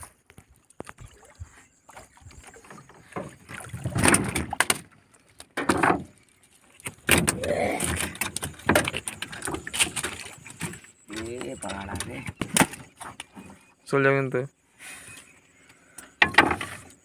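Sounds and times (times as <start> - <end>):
bumps and rustles in wooden boat: 0.0 - 14.3, 14.9 - 17.0.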